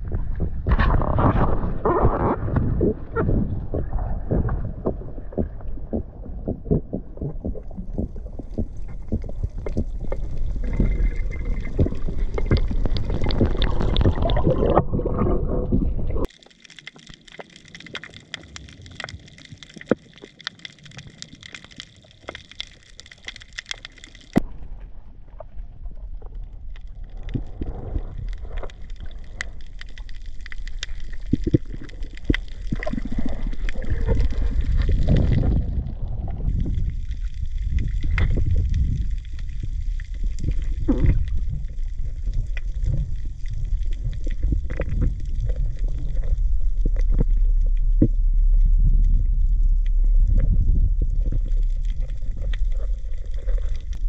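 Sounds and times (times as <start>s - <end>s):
underwater rushing and gurgling: 0.0s - 54.0s
underwater crackle of clicks: 3.7s - 24.5s, 26.2s - 54.0s.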